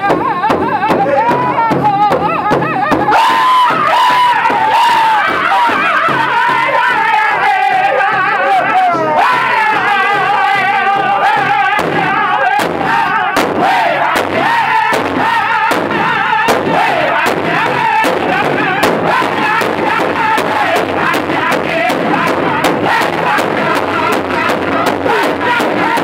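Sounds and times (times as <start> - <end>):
group singing in chorus: 0.0 - 26.0
large hide drum beating: 0.0 - 26.0.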